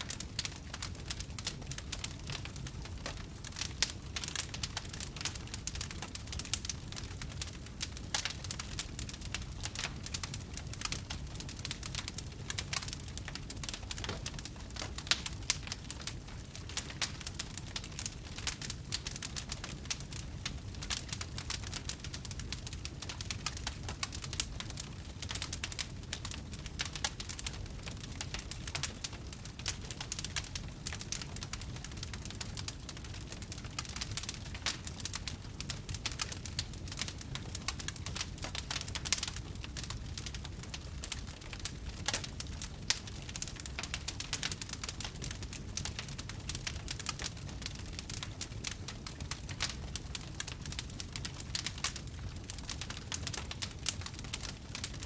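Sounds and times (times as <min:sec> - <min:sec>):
low rumble of burning: 0:00.0 - 0:55.0
wood fire crackling and popping: 0:00.0 - 0:55.0.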